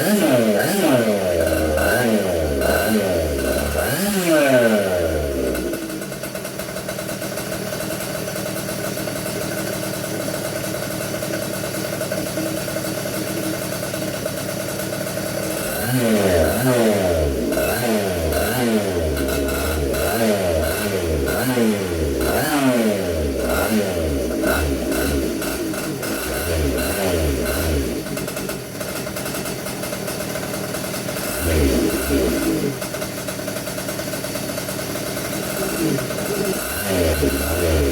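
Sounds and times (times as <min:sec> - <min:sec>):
two-stroke kart engine revving: 0:00.0 - 0:37.9.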